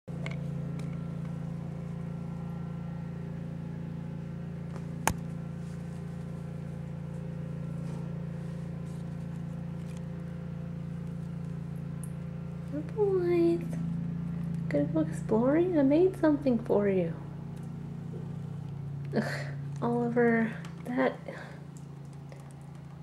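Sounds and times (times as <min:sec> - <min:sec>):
low mechanical hum: 0:00.1 - 0:23.0.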